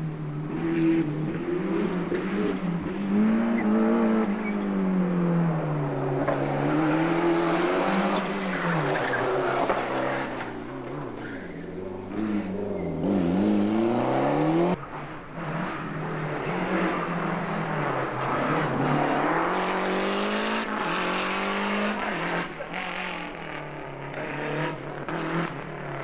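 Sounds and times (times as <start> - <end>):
rally car engine accelerating: 0.0 - 26.0.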